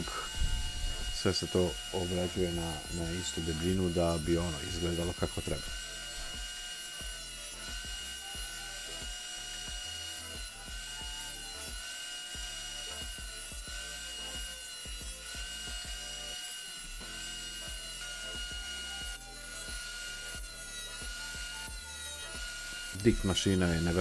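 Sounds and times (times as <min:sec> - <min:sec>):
thickness planer whining: 0:00.0 - 0:24.0
wood knocking and cutting: 0:00.0 - 0:24.0.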